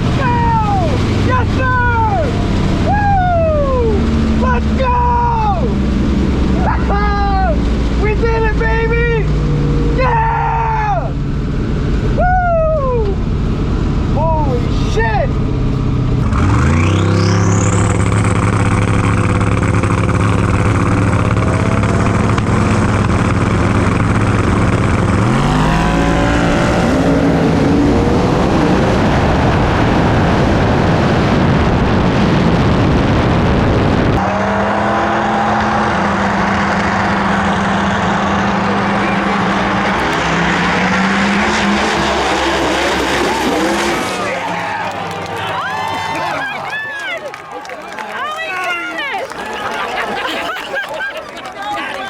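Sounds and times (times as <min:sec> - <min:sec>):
race car engines at high rpm: 0:00.0 - 0:52.0.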